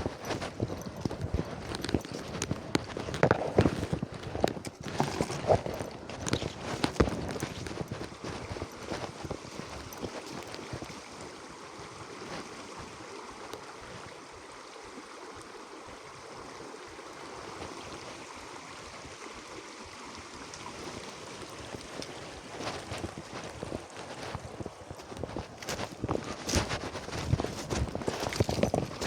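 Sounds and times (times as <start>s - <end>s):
stream flowing over rocks: 0.0s - 29.0s.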